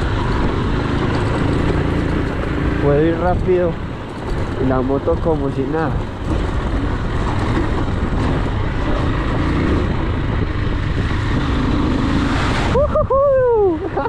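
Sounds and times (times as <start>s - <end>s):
motorcycle engine running: 0.0s - 12.8s
wind rushing on microphone: 0.0s - 14.0s.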